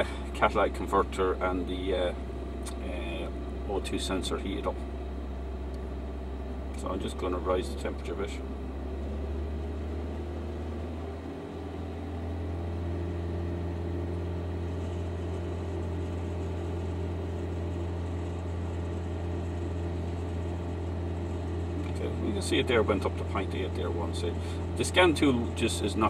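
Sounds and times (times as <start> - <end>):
car engine running above idle: 0.0 - 26.0.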